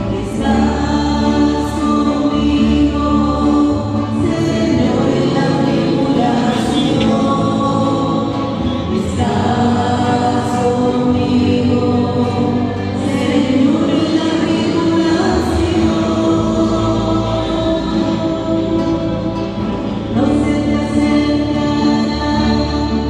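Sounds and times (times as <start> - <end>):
acoustic guitar strumming: 0.0 - 23.0
voices singing long notes: 0.0 - 23.0.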